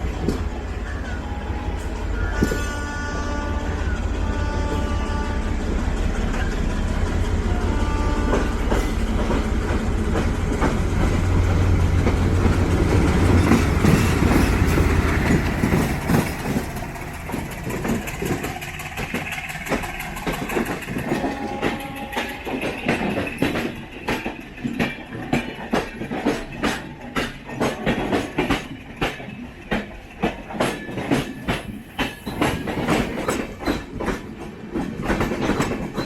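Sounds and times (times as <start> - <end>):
wheels clacking over rail joints: 0.0 - 2.9, 8.2 - 36.0
train rumbling on rails: 0.0 - 36.0.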